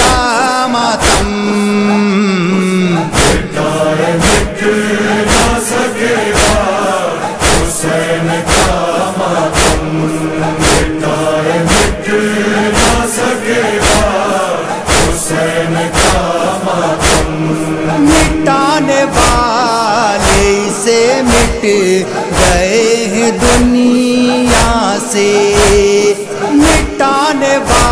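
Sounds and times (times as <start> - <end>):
men chanting in chorus: 0.0 - 27.9
rhythmic chest-beating: 0.0 - 27.9.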